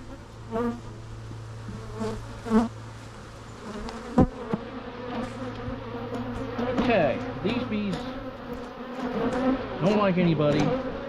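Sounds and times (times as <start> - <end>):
bees buzzing past: 0.0 - 11.0
bees humming around hive: 0.0 - 11.0.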